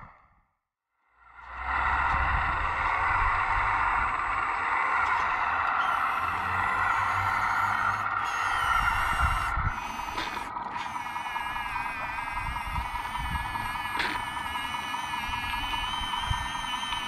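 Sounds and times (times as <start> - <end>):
small electric motors whining: 1.2 - 17.0.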